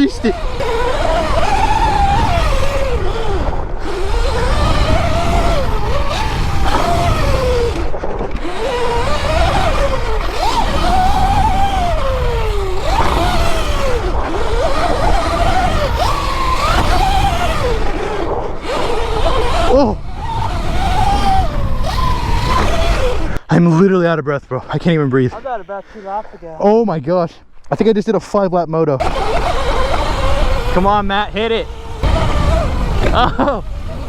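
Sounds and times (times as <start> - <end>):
electric motorbike motor whining: 0.0 - 23.5, 29.0 - 34.0
wind on microphone: 0.0 - 23.5, 29.0 - 34.0.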